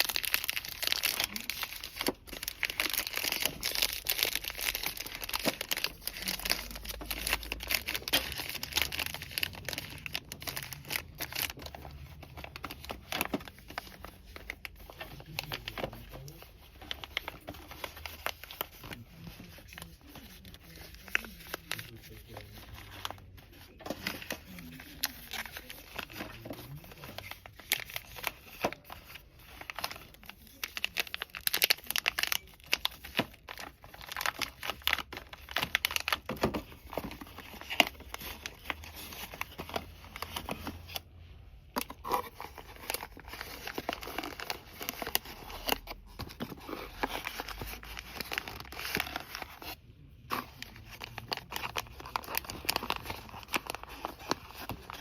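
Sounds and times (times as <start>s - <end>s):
packaging crinkling and rustling: 0.0s - 55.0s.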